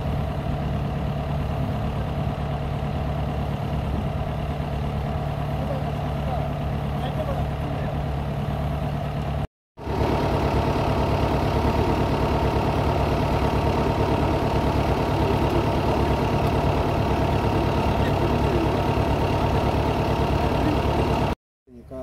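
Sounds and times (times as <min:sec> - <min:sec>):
drill rig engine and machinery rattle: 0:00.0 - 0:21.4.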